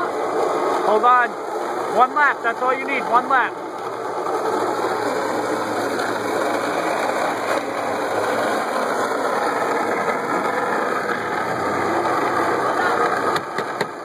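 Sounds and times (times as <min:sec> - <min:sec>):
car engine running: 0:00.0 - 0:14.0
rolling on concrete floor: 0:00.0 - 0:14.0.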